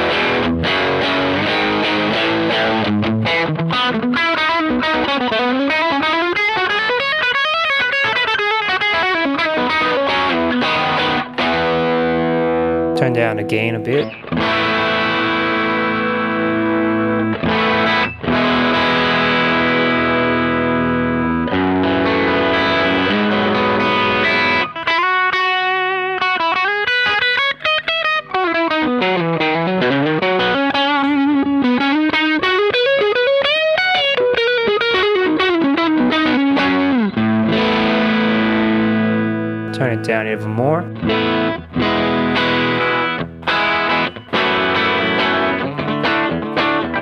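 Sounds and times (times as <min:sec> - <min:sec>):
distorted electric guitar: 0:00.0 - 0:47.0.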